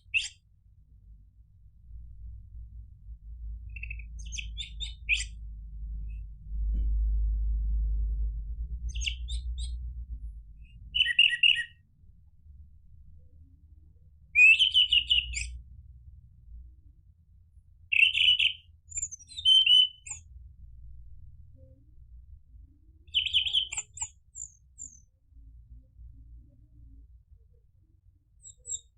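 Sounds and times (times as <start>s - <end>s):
faint low rumble: 0.0s - 28.9s.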